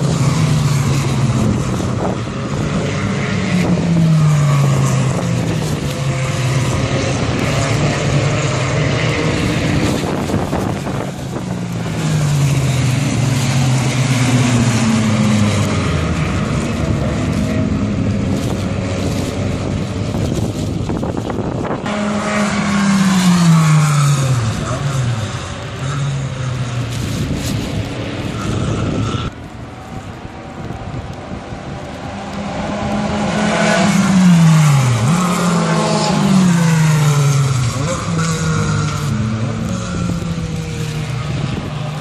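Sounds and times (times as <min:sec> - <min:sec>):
race cars passing by: 0:00.0 - 0:42.0.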